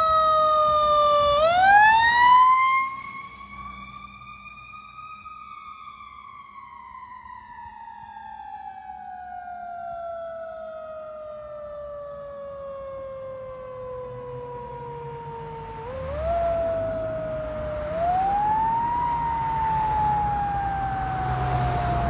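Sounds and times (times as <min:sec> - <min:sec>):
fire engine siren: 0:00.0 - 0:22.0.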